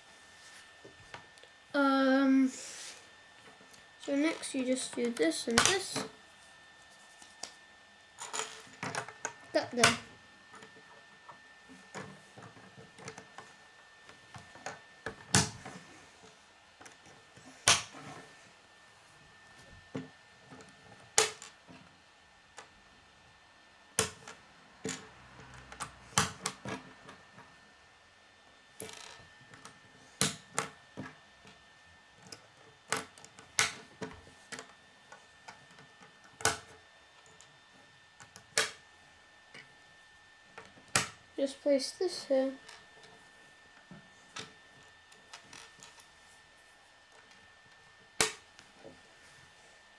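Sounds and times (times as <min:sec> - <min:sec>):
faint high hum: 0:00.0 - 0:49.9.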